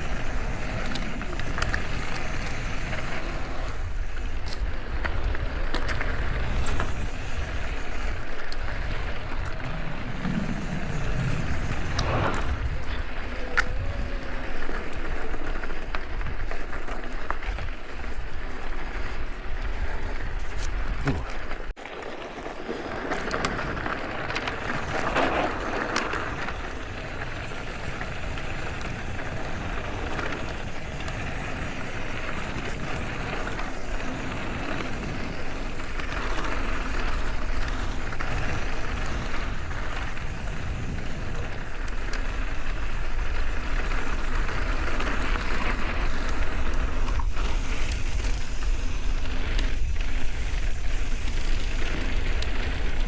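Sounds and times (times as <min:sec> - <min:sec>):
wind on camera microphone: 0:00.0 - 0:16.7, 0:17.4 - 0:21.7, 0:24.5 - 0:53.0
bike tyres rolling on dirt: 0:00.0 - 0:53.0.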